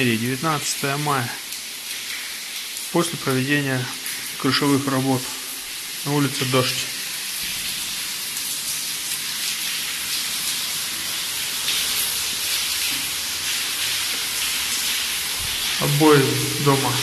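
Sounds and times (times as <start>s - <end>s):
water running down stairs: 0.0s - 17.0s.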